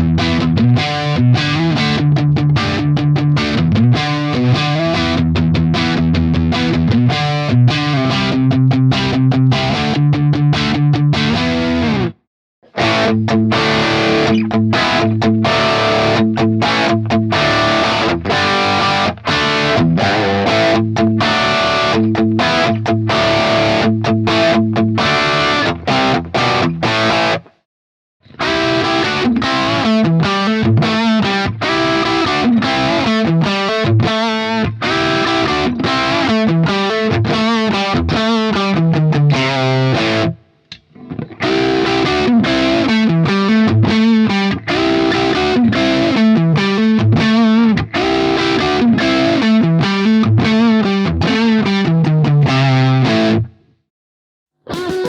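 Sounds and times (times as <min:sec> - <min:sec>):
overdriven electric guitar riffs: 0:00.0 - 0:27.6, 0:28.2 - 0:53.5, 0:54.7 - 0:55.0.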